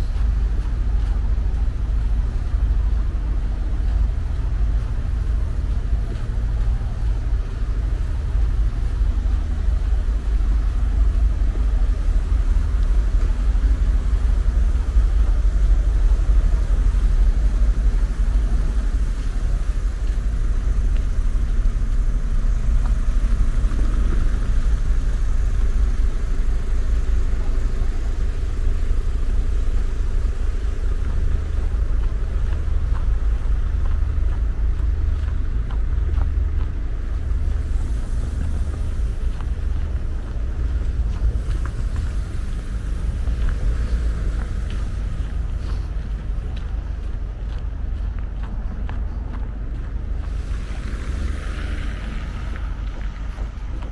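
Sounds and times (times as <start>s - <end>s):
street traffic rumble: 0.0s - 53.9s.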